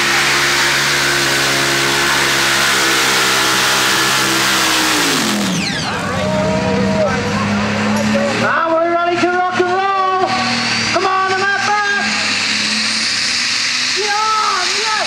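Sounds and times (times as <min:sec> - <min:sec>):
tractor engine passing: 0:00.0 - 0:15.0.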